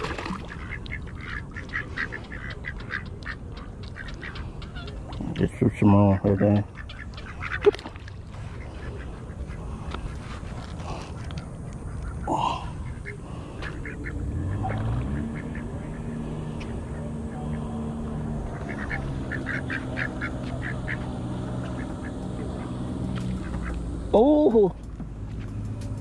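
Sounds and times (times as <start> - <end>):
low steady hum: 0.0 - 26.0
ducks quacking: 0.1 - 10.1, 11.1 - 24.8.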